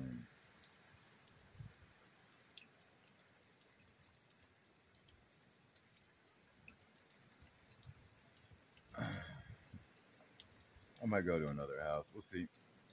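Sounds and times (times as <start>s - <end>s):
faint steady rain: 0.0s - 12.9s
water drips: 0.0s - 12.9s.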